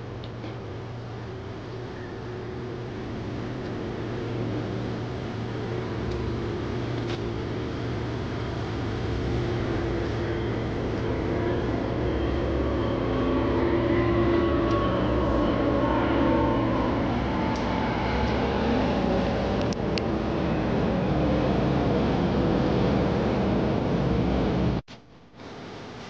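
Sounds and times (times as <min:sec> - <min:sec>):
motorcycle engine and road noise: 0:00.0 - 0:24.8.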